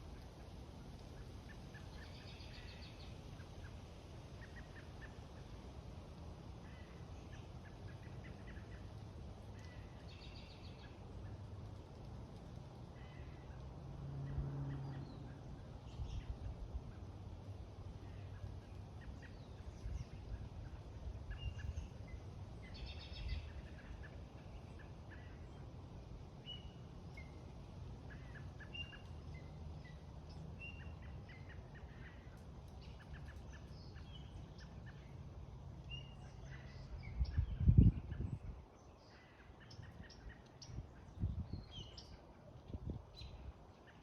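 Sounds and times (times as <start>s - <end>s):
wild birds chirping: 0.1s - 5.7s, 6.5s - 44.0s.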